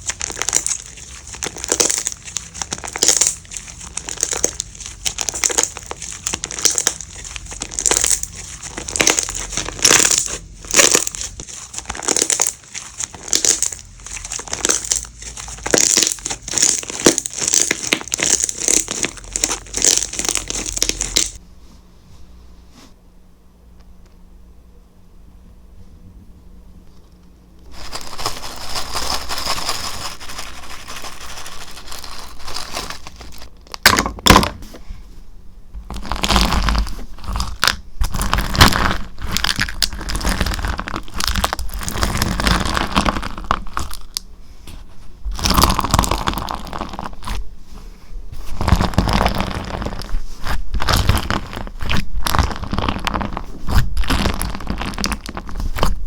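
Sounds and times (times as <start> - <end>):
slime crackling and popping: 0.0 - 21.4, 27.7 - 34.6, 35.8 - 44.3, 45.3 - 47.4, 48.4 - 56.0.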